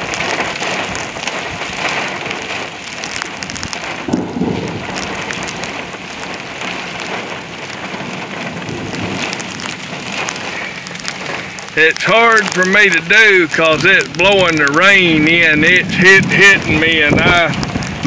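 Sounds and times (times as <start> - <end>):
heavy rain pouring: 0.0 - 18.0
low thunder rumble: 0.0 - 18.0.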